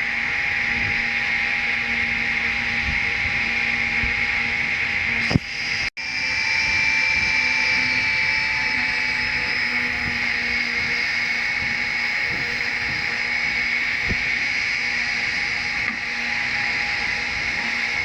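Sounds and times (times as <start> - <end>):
fan air rushing: 0.0 - 18.0
small fan motor whine: 0.0 - 18.0.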